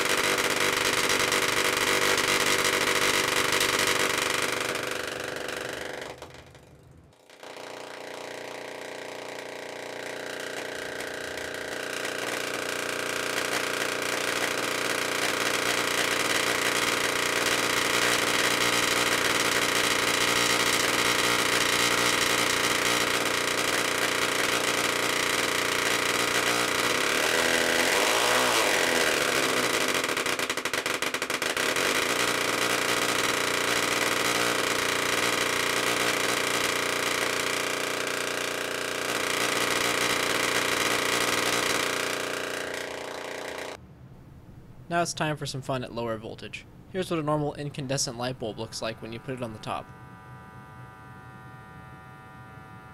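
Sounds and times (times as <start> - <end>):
tesla coil electrical buzz: 0.0 - 43.8, 46.6 - 52.9.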